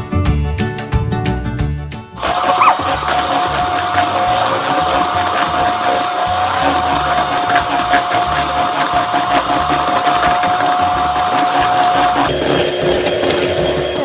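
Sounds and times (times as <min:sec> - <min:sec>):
electric mixer whining: 0:02.2 - 0:14.0.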